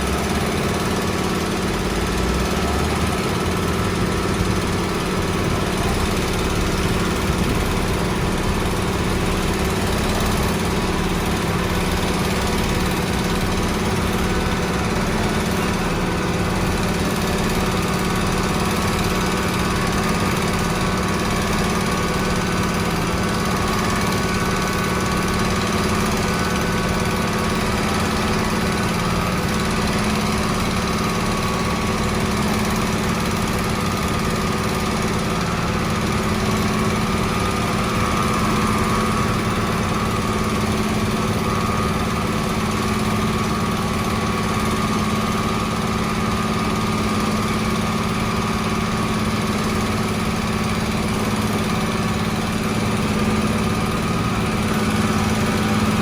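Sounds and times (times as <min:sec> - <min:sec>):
construction machine engine running: 0:00.0 - 0:56.0.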